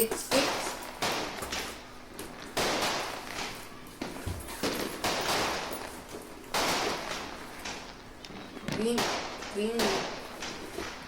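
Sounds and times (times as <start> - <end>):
firecrackers bursting: 0.0 - 11.0.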